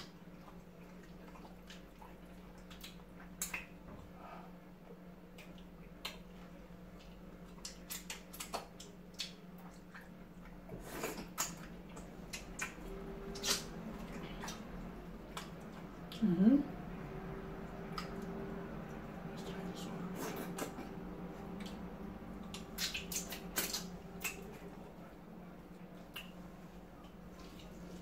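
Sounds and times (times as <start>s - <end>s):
wet eating smacks and squishes: 0.0s - 4.1s, 5.3s - 16.2s, 17.8s - 28.0s
faint low hum: 0.0s - 28.0s.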